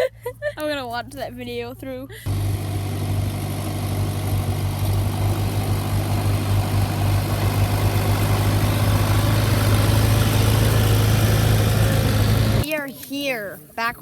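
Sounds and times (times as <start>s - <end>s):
tractor engine humming: 0.0s - 14.0s.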